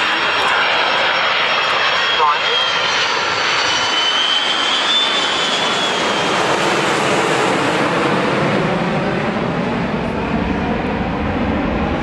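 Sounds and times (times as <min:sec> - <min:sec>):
jet engines roaring overhead: 0:00.0 - 0:12.0.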